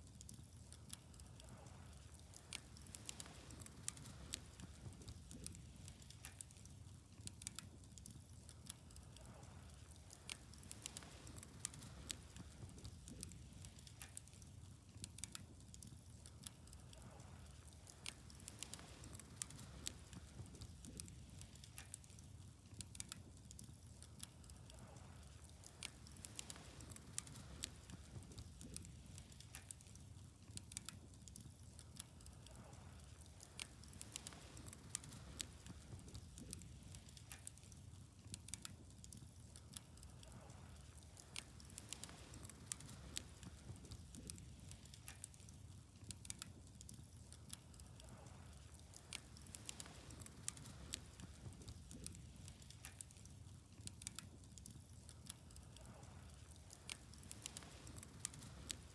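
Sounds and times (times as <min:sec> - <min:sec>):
bonfire crackling and popping: 0:00.0 - 0:58.9
faint low rumble: 0:00.0 - 0:58.9.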